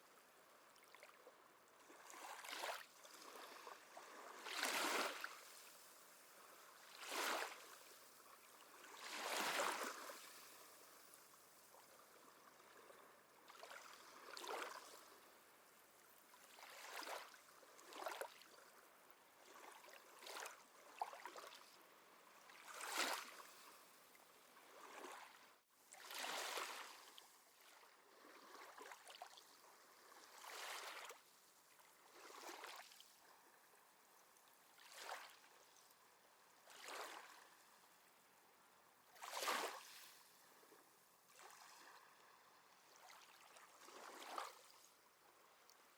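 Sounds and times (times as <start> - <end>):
small waves lapping on shore: 0.0 - 45.9.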